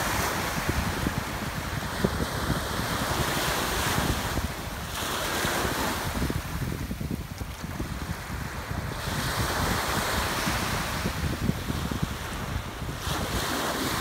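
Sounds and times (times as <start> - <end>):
sea waves washing onto shore: 0.0 - 14.0
wind rumbling on the microphone: 0.0 - 14.0.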